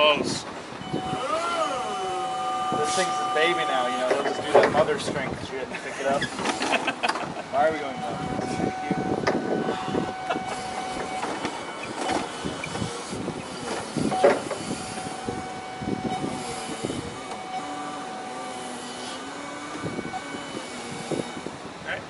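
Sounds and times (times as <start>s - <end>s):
forklift high whine: 0.0s - 22.0s.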